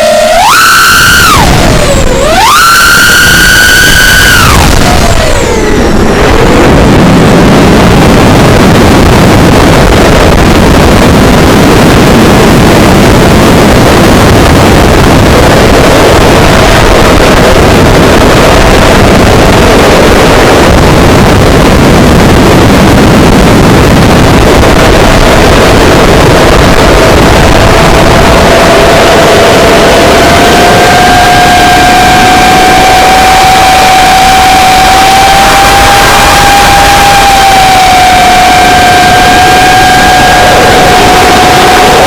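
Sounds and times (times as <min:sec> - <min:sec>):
wind rushing over microphone: 0:00.0 - 0:42.0.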